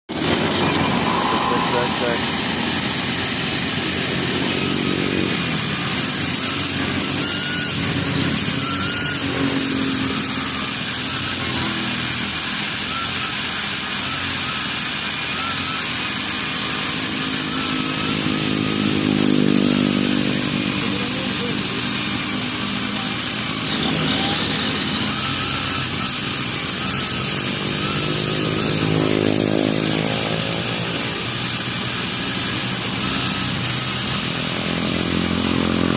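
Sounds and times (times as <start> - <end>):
brush cutter engine whining: 0.0 - 35.9.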